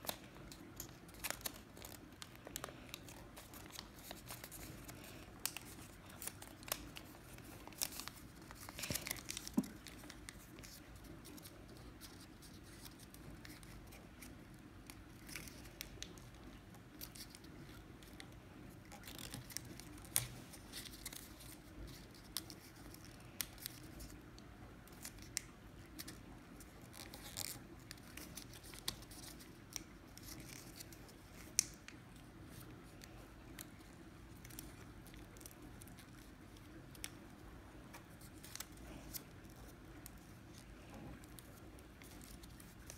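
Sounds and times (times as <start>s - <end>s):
paper crackles: 0.0s - 24.2s, 24.8s - 42.9s
paper rustling and crinkling: 0.0s - 24.2s, 24.8s - 42.9s.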